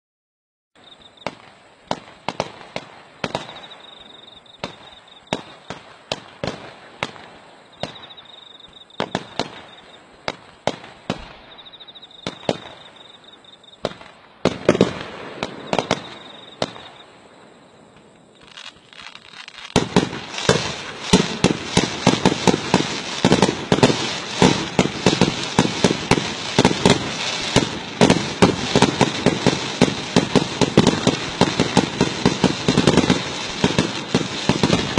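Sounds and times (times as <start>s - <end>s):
fireworks bangs and crackling: 1.0s - 34.9s.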